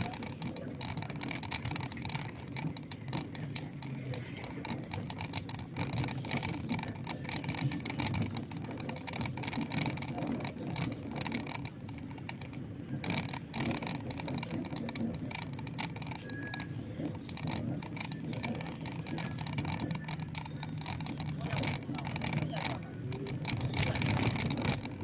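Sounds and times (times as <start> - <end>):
rustling crackles: 0.0 - 25.0
traffic rumble: 0.0 - 25.0.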